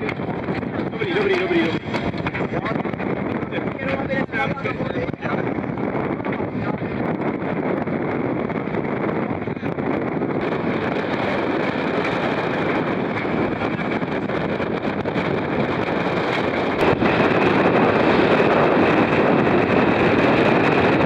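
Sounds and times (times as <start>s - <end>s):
choppy sea rushing: 0.0s - 21.0s
wind blowing across microphone: 0.0s - 21.0s.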